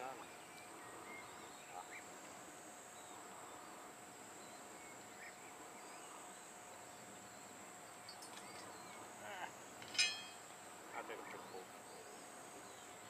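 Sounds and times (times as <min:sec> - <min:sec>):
distant bird chirps: 0:00.0 - 0:13.0
steady high whine: 0:00.0 - 0:13.0.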